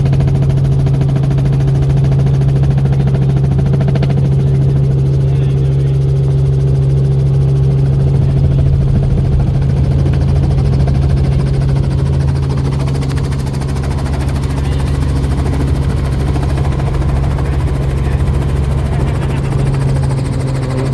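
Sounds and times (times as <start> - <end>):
helicopter engine and rotor: 0.0 - 20.9.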